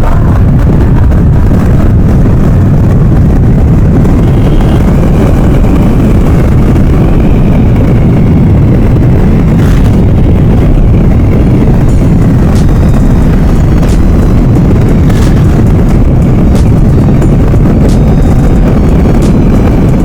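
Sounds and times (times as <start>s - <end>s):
motorcycle engine running: 0.0s - 20.0s
wind rumble on microphone: 0.0s - 20.0s.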